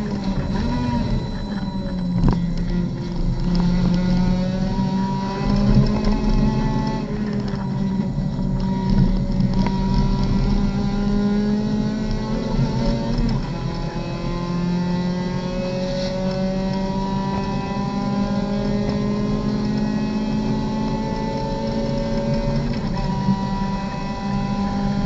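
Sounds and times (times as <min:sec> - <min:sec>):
race car engine at full throttle: 0:00.0 - 0:25.0.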